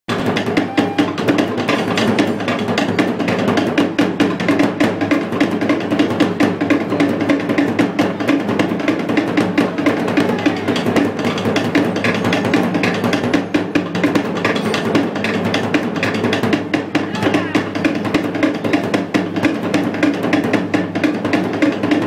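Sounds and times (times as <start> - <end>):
deep drum beat: 0.1 - 22.0
fast strikes on wooden slit drums: 0.1 - 22.0.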